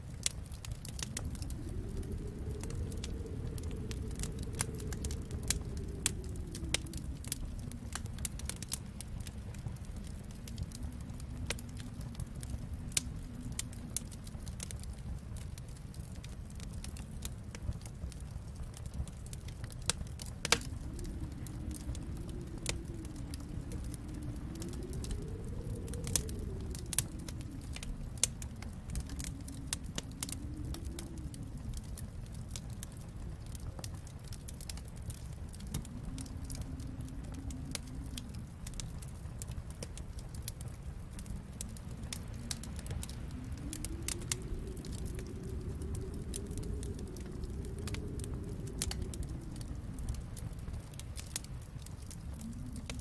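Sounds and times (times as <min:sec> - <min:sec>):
wind howling: 0:00.0 - 0:53.0
wood fire crackling: 0:00.0 - 0:53.0.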